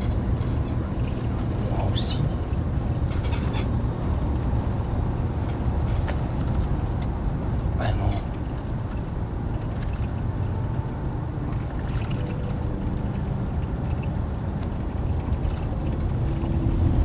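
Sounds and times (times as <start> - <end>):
vehicle cabin rumble: 0.0 - 17.0.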